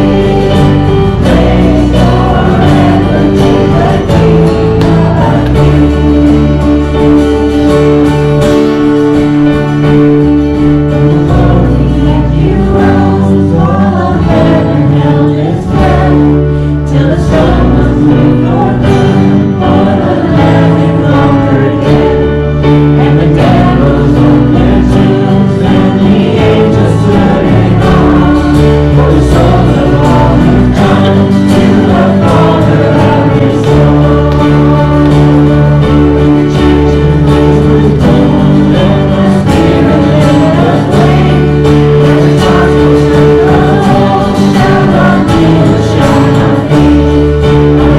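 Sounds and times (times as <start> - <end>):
instrumental accompaniment: 0.0 - 47.9
voices singing a hymn: 0.0 - 47.9.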